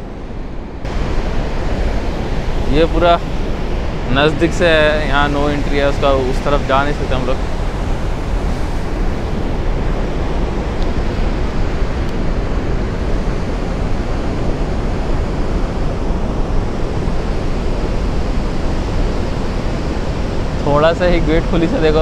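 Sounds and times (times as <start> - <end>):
water rushing from dam spillway: 0.9 - 22.0.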